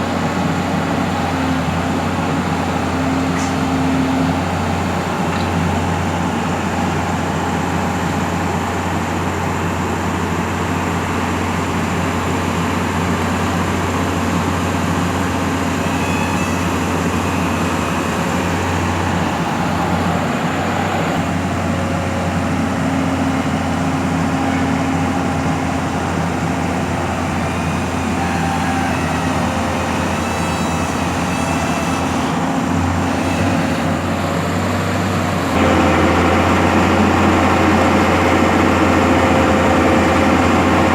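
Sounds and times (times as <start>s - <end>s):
crane engine running: 0.0s - 40.9s.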